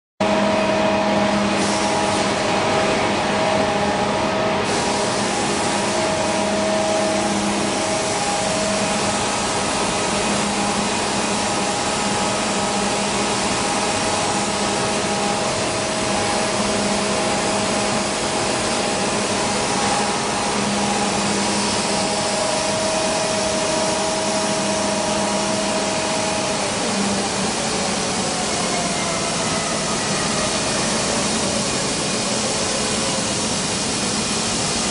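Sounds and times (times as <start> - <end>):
cnc router running: 0.2 - 34.9.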